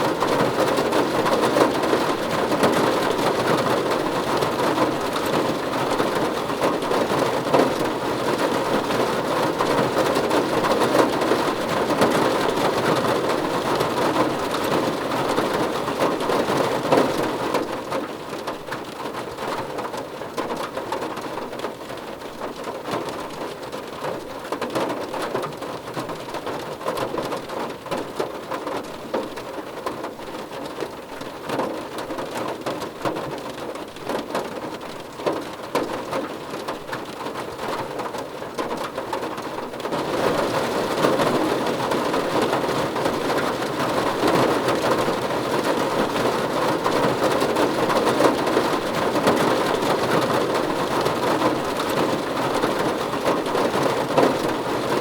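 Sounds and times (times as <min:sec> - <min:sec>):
rain on a car roof: 0:00.0 - 0:55.0.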